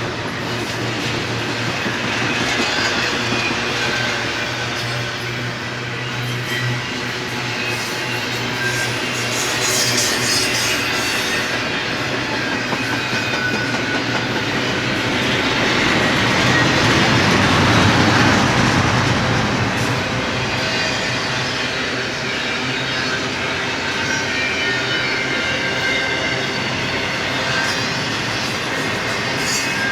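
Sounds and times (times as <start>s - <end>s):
freight train rumbling past: 0.0s - 29.9s.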